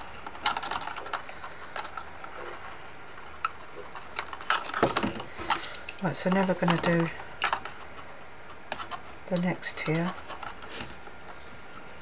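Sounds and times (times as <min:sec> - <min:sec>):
cardstock rustling: 0:00.0 - 0:12.0.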